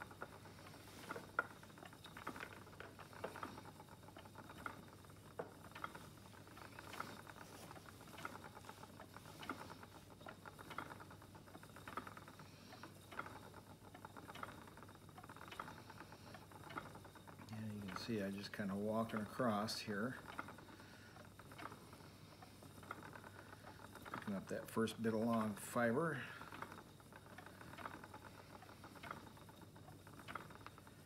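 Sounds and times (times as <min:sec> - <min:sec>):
spinning wheel clicking: 0:00.0 - 0:31.0.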